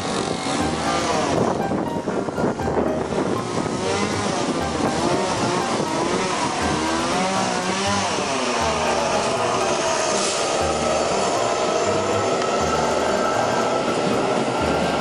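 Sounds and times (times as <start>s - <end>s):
electric train pulling out: 0.0s - 15.0s.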